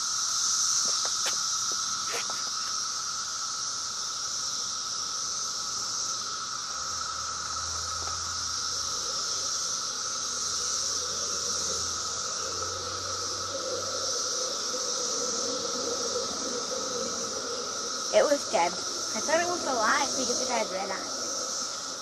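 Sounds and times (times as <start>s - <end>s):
cicadas droning: 0.0s - 22.0s
lower steady cicada tone: 0.0s - 22.0s.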